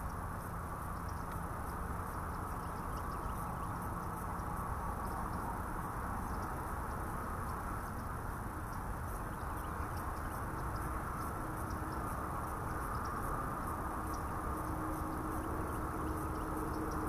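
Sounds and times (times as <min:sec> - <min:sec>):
insects chirping: 0:00.0 - 0:17.0
low steady hiss: 0:00.0 - 0:17.0.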